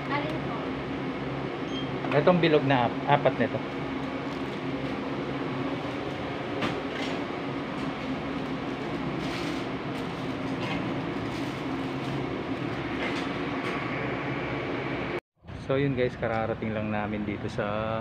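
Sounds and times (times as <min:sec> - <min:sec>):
vehicle cabin engine drone: 0:00.0 - 0:18.0.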